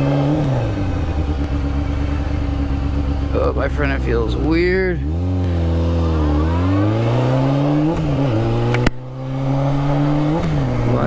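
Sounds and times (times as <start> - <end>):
motorcycle engine revving: 0.0 - 11.0
sharp click: 0.0 - 11.0.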